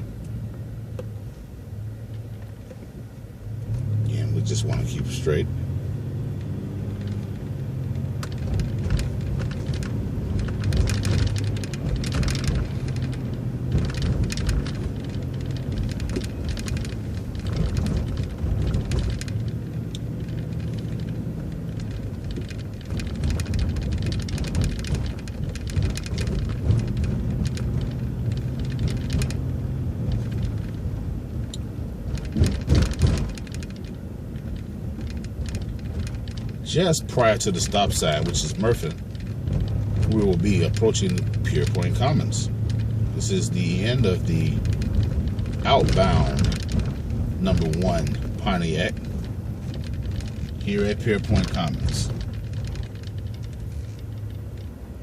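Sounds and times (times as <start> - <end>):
bus engine drone: 0.0 - 55.0
bus body rattles and knocks: 7.0 - 55.0.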